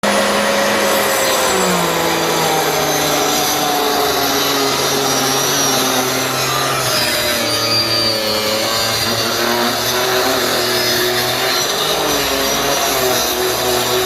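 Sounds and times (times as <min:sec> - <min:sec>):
saw cutting hardwood: 0:00.0 - 0:14.0.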